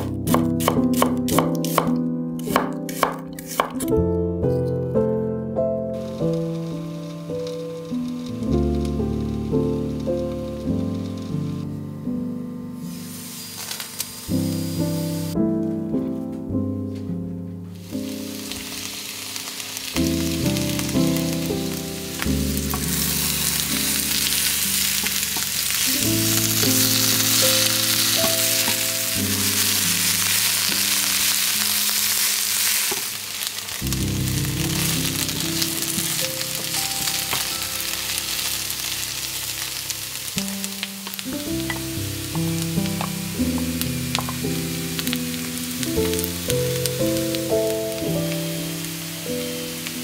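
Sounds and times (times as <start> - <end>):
background music: 0.0 - 32.5, 33.8 - 50.0
food sizzling in hot oil: 6.0 - 11.9, 12.8 - 15.4, 17.8 - 50.0.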